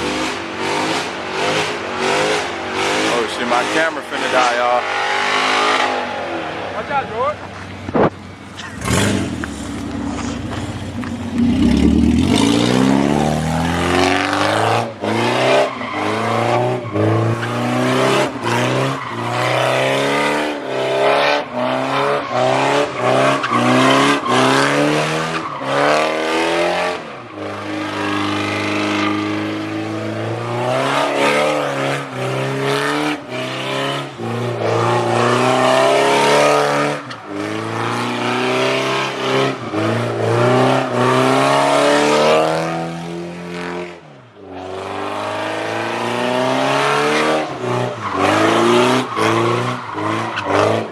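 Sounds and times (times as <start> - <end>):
car engine revving hard: 0.0 - 6.9, 8.7 - 44.0, 44.6 - 50.9.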